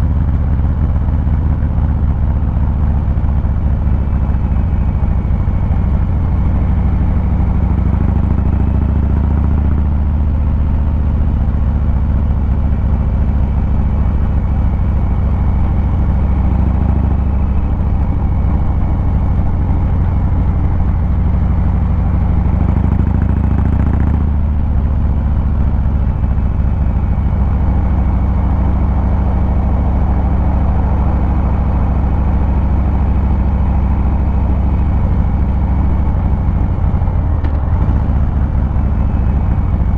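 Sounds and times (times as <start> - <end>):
motorcycle exhaust rumble: 0.0 - 39.9.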